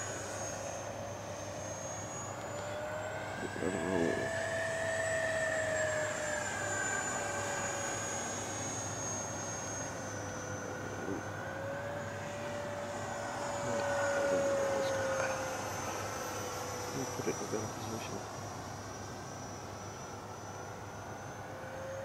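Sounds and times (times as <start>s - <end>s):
model jet fan whine: 0.0s - 22.0s.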